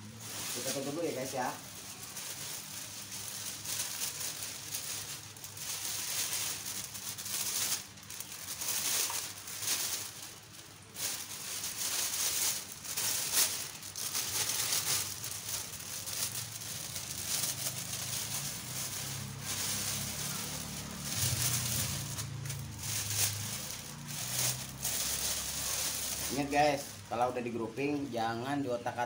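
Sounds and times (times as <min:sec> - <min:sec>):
plastic bag crinkling: 0:00.0 - 0:28.0.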